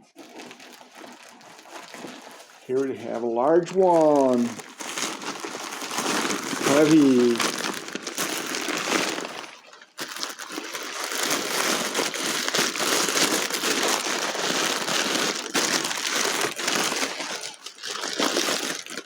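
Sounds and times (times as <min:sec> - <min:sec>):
packing wrap crinkling: 0:00.0 - 0:19.0.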